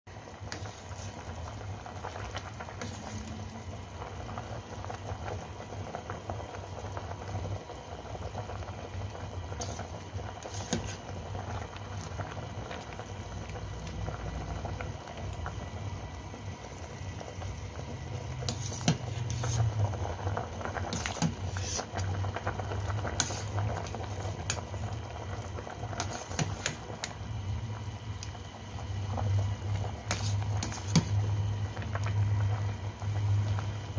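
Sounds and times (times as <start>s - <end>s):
soup bubbling in a pot: 0.1s - 33.9s.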